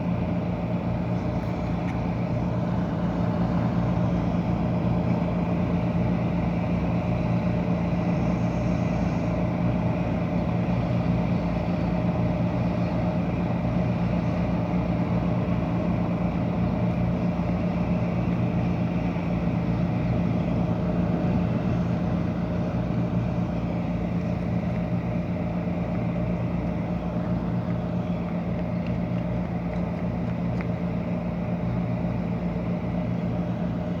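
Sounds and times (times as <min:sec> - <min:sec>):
ship engines and pumps droning: 0:00.0 - 0:34.0.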